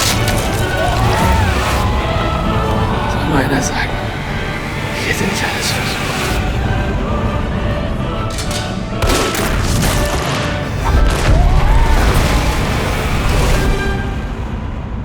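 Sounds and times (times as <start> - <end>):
deep rumble: 0.0 - 15.0
dramatic trailer music: 0.0 - 15.0.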